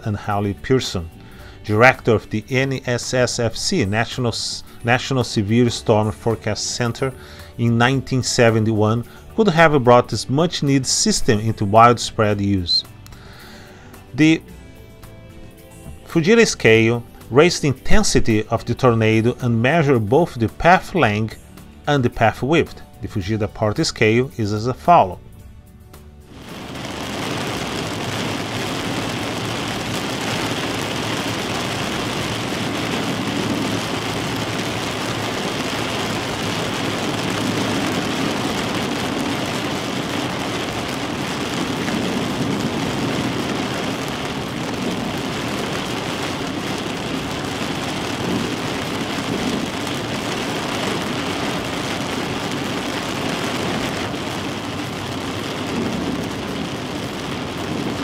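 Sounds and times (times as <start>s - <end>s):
heavy rain: 0.0s - 17.3s, 26.2s - 58.0s.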